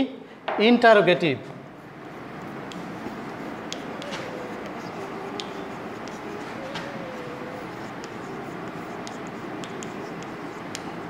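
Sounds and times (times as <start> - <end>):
steady background hiss: 0.0 - 11.0
chalk tapping on blackboard: 1.8 - 11.0.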